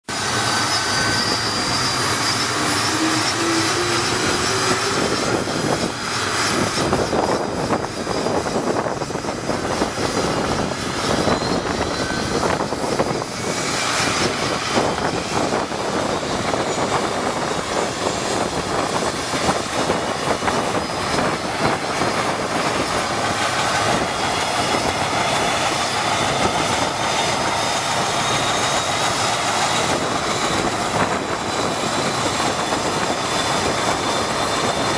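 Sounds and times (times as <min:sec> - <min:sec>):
helicopter turbine whine: 0:00.0 - 0:34.9.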